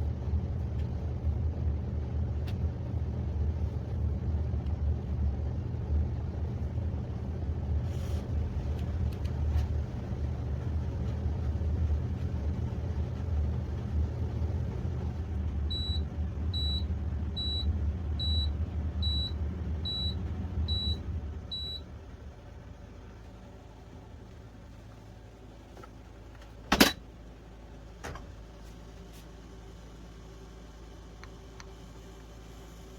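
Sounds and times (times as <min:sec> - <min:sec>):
machine low rumble: 0:00.0 - 0:32.9.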